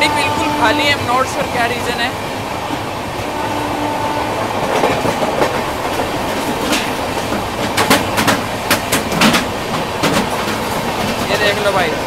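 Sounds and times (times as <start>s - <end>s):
train wheels rumbling on rails: 0.0s - 12.0s
wheels clacking over rail joints: 0.4s - 12.0s.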